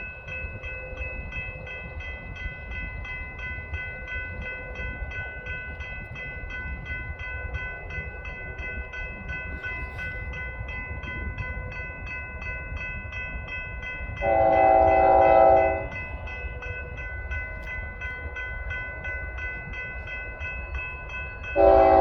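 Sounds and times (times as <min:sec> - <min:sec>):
railroad crossing bell ringing: 0:00.0 - 0:22.0.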